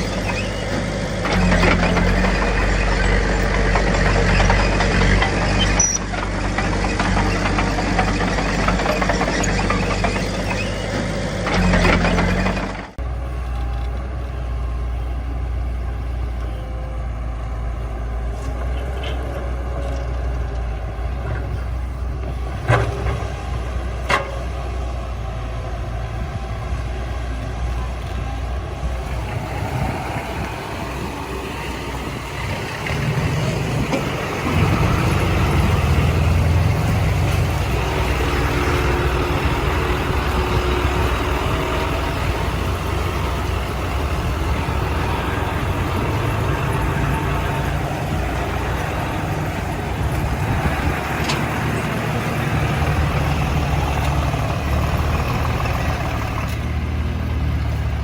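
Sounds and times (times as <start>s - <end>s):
diesel earthmoving machinery: 0.0s - 58.0s.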